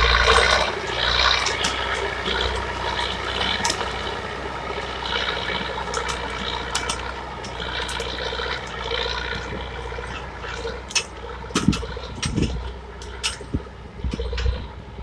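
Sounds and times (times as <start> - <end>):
truck engine hum: 0.0 - 15.0
wheels sloshing through mud: 0.0 - 15.0.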